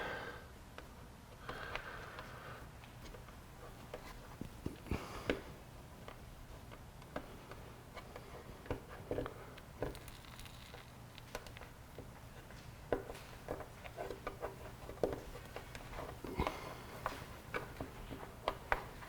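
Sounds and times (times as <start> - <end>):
hands tapping and rubbing tape: 0.7 - 19.0.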